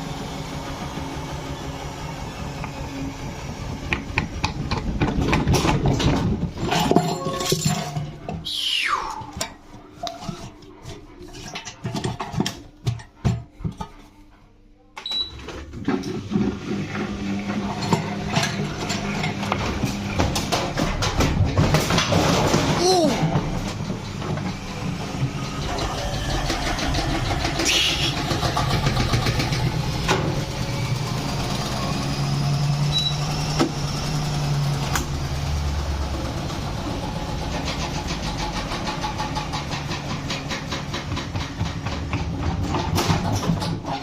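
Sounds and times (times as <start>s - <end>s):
washing machine spinning: 0.0s - 14.3s, 15.0s - 44.0s.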